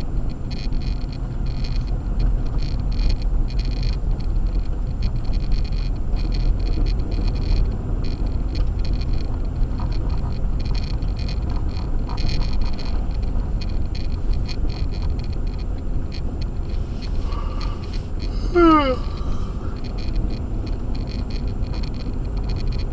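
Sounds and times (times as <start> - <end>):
engine and road noise rumble: 0.0 - 22.9.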